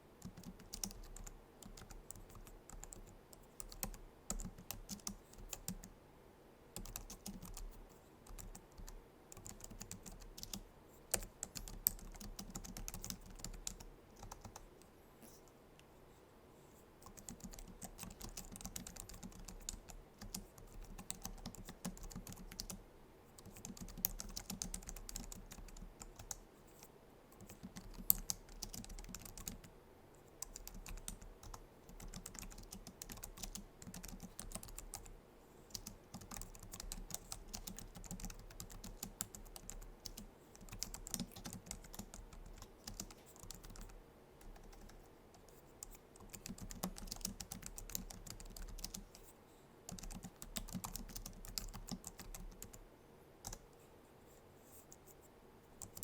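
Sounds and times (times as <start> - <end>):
keyboard typing clicks: 0.2 - 5.9, 6.8 - 14.6, 17.0 - 22.8, 23.4 - 26.4, 27.4 - 29.7, 30.4 - 35.1, 35.7 - 49.2, 49.9 - 52.8.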